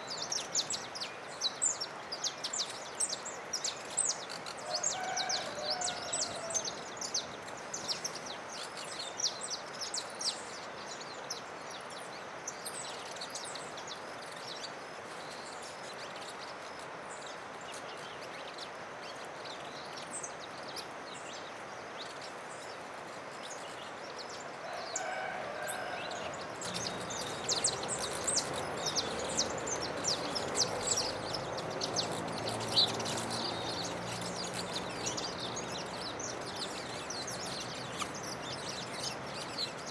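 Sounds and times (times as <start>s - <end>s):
songbirds chirping: 0.0s - 39.9s
steady outdoor hiss: 0.0s - 39.9s.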